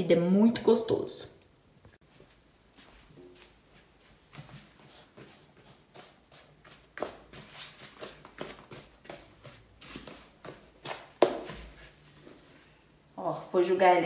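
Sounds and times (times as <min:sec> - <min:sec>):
rustling on kitchen counter: 0:02.1 - 0:13.7.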